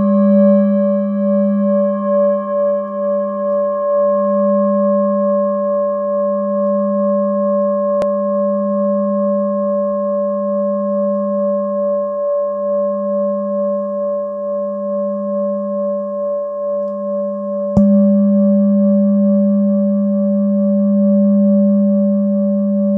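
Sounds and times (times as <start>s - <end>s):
metal singing bowl ringing: 0.0s - 22.9s.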